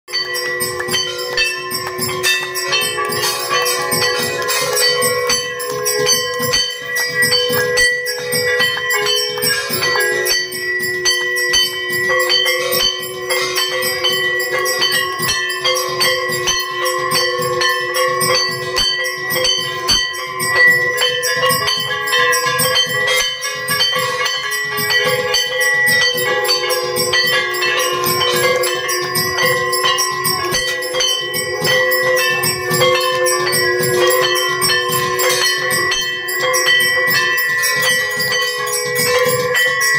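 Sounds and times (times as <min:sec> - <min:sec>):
hand bell ringing rapidly: 0:00.1 - 0:39.9.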